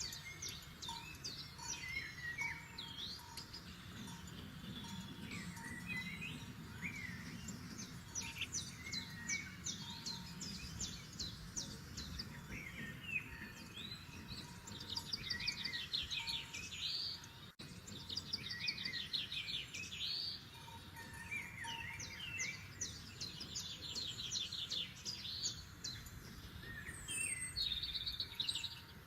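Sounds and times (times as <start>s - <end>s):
songbirds singing and calling: 0.0s - 29.0s.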